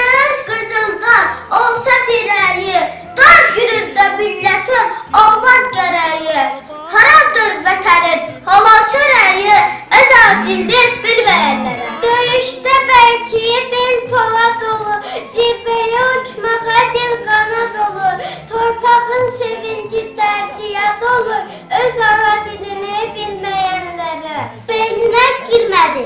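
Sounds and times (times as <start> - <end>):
child singing: 0.0 - 24.0.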